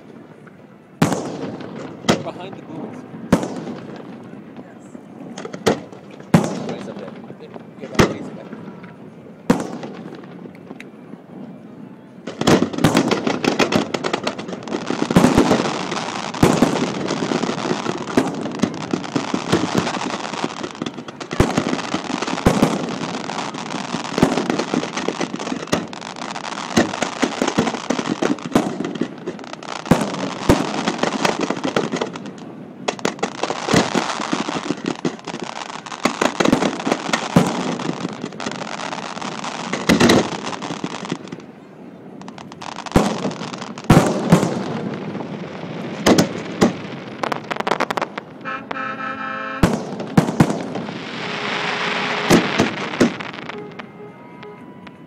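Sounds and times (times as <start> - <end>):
fireworks sharp bangs: 0.0 - 11.3, 12.2 - 55.0
fireworks crackling: 0.0 - 55.0.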